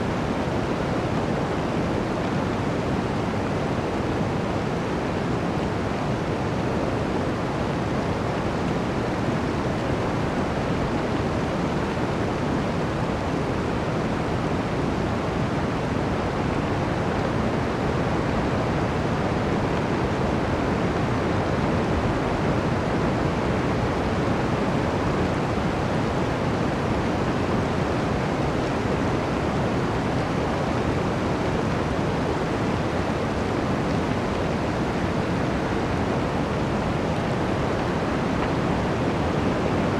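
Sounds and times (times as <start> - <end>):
blizzard wind through forest: 0.0 - 39.9.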